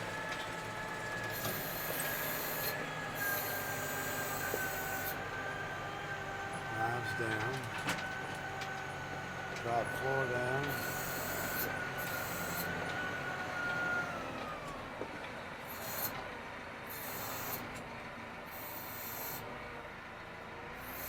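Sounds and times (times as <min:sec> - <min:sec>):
tractor engine from cab: 0:00.0 - 0:21.0.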